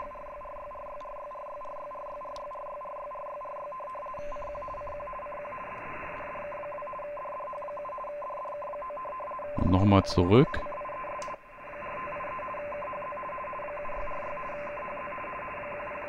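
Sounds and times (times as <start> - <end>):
receiver hiss: 0.0 - 16.0
two-tone radio keying signal: 0.0 - 16.0.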